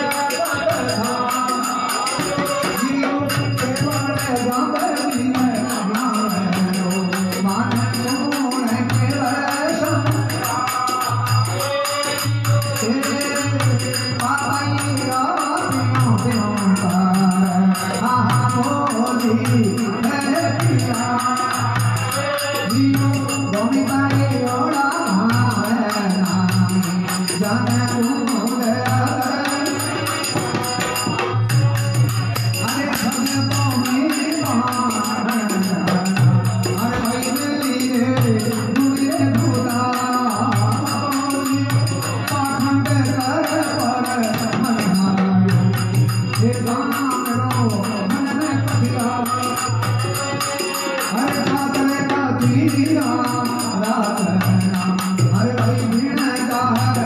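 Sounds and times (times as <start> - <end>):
hand drum beat: 0.0 - 57.0
harmonium: 0.0 - 57.0
man singing devotional song: 0.0 - 57.0.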